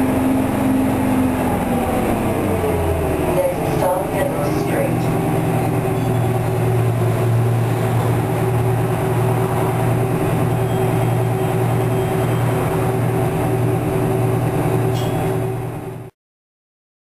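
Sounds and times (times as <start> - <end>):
bus diesel engine humming: 0.0 - 16.1.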